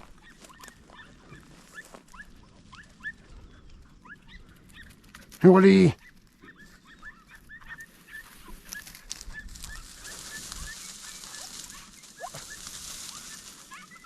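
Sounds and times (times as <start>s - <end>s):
dog yelping: 0.0s - 3.3s, 6.0s - 14.0s.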